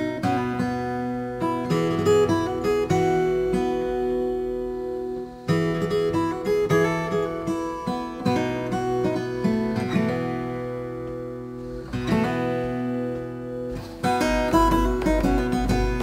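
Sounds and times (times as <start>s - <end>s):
acoustic guitar picking and strumming: 0.0s - 16.0s.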